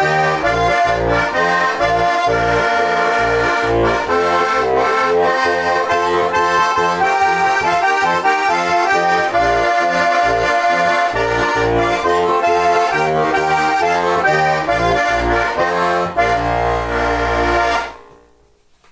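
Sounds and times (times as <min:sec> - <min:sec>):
button accordion folk tune: 0:00.0 - 0:18.2.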